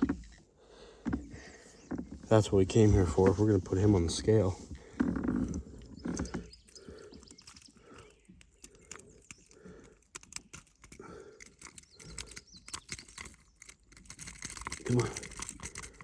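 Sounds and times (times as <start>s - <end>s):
fishing gear clicking and knocking: 0.0s - 16.0s.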